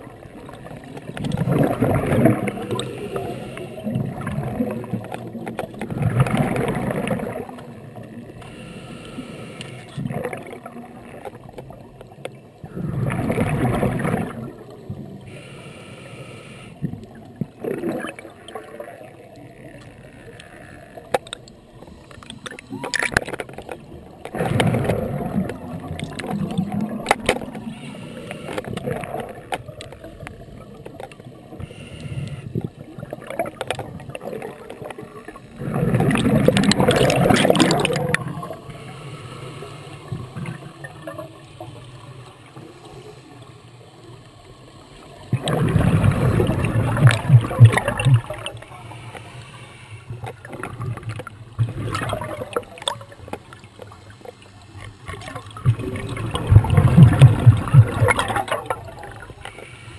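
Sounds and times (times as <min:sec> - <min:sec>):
underwater exhaust bubbles: 0:00.0 - 0:59.9
underwater water noise: 0:00.0 - 0:59.9.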